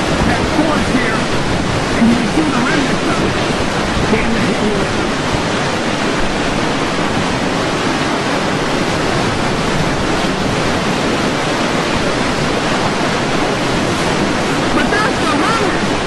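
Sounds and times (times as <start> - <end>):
hurricane wind and surf: 0.0 - 16.0.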